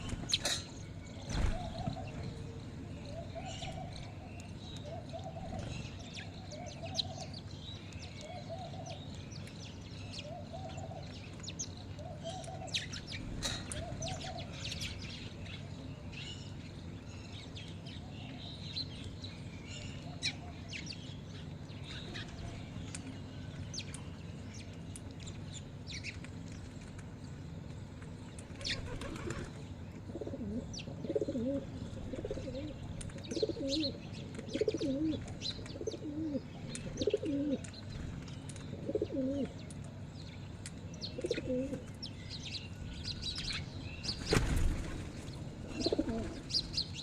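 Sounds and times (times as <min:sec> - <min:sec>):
birds chirping and tweeting: 0:00.0 - 0:47.0.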